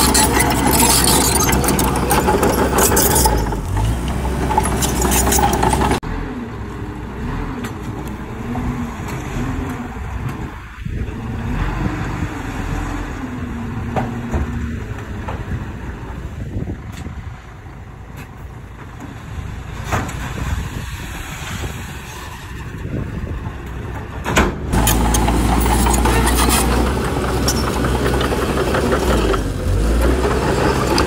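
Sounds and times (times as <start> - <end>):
bulldozer diesel engine: 0.0 - 31.0.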